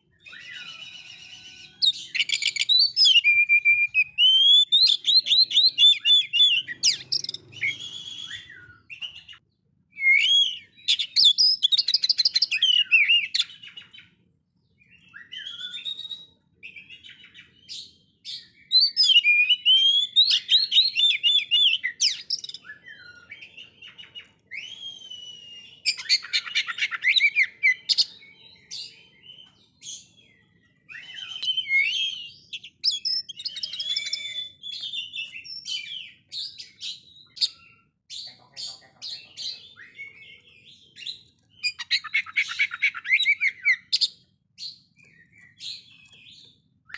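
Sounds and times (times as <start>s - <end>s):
bird singing whistles and trills: 0.0s - 46.9s.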